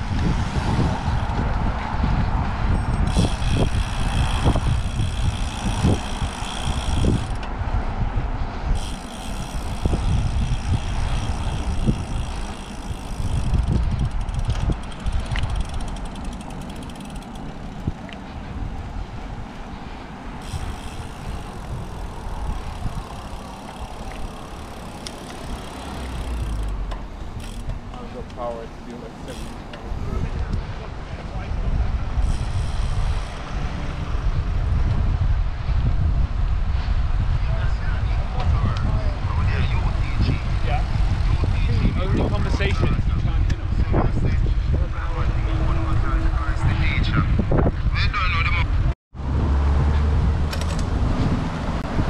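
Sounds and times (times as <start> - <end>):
road traffic noise: 0.0 - 52.0
wind buffeting microphone: 0.0 - 52.0.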